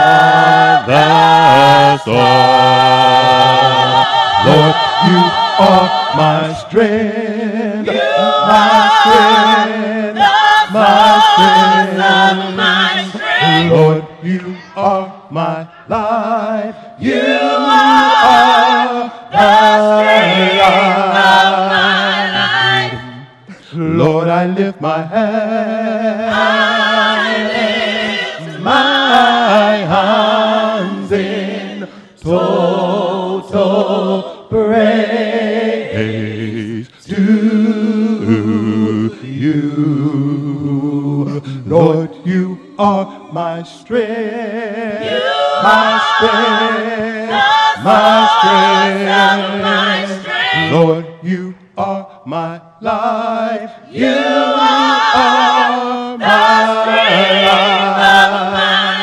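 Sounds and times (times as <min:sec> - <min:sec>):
women singing a cappella gospel: 0:00.0 - 0:59.0.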